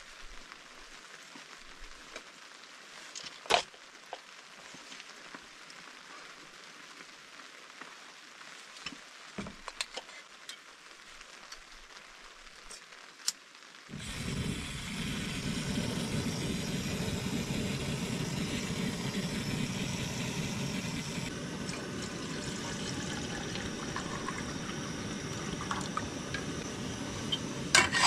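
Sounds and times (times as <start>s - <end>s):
light rain patter: 0.0s - 27.8s.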